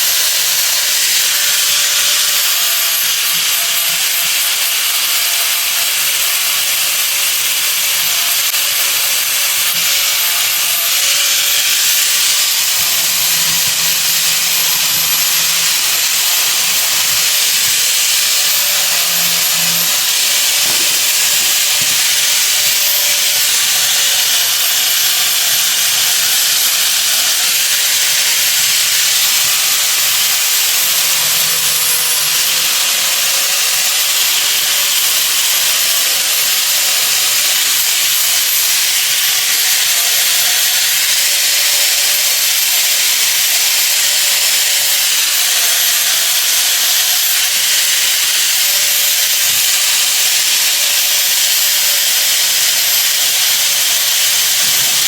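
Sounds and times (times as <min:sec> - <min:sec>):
loud steady hiss: 0:00.0 - 0:55.0.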